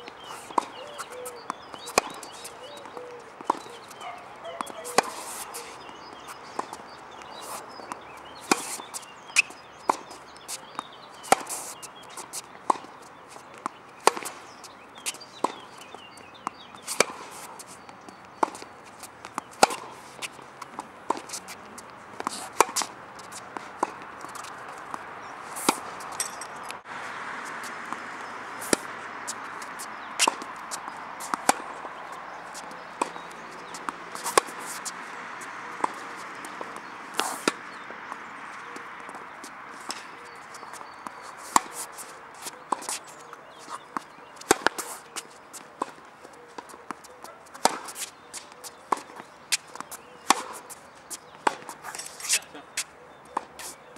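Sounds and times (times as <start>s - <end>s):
tennis ball bouncing: 0.1s - 53.8s
tennis ball struck by racket: 0.4s - 12.9s, 13.5s - 46.0s, 46.6s - 53.7s.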